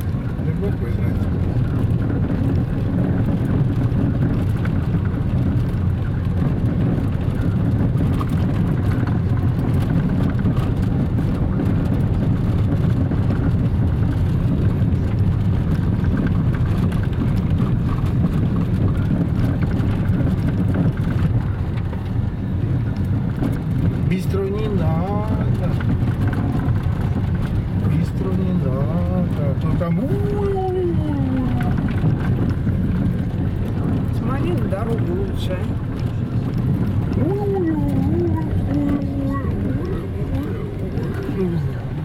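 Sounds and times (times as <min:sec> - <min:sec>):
car driving on gravel road: 0:00.0 - 0:42.0
stones crackling under wheels: 0:00.0 - 0:42.0.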